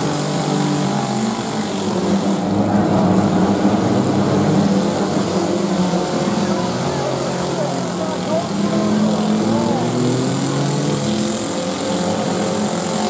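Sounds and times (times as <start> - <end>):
car engines running and revving: 0.0 - 13.0.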